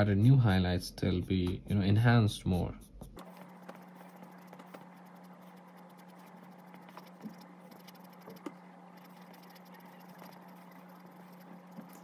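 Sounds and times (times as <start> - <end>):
pencil scratching on paper: 0.0 - 12.0
steady low hum: 0.0 - 12.0.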